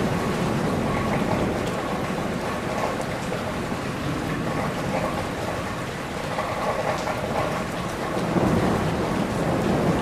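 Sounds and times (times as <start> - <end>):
rain falling on leaves: 0.0 - 10.0.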